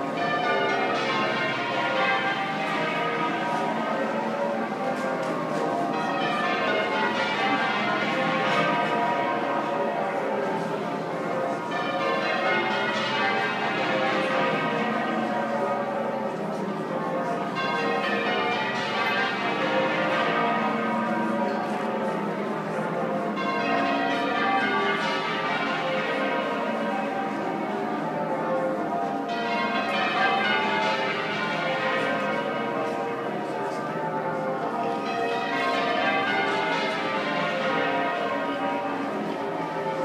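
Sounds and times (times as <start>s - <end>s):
church bells change ringing: 0.0s - 40.0s.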